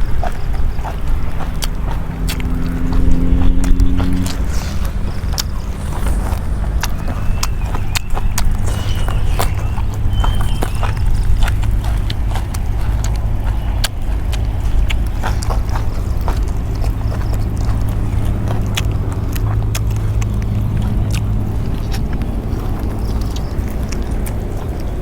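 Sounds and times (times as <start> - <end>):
chewing crunchy food: 0.0 - 25.0
steady low rumble: 0.0 - 25.0.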